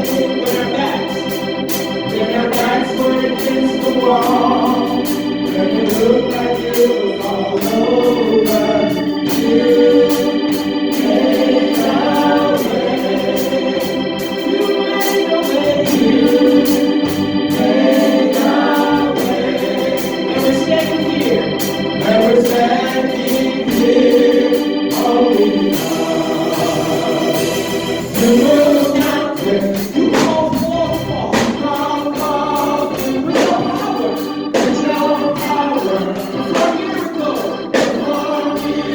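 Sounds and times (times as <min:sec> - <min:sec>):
organ playing held chords: 0:00.0 - 0:38.9.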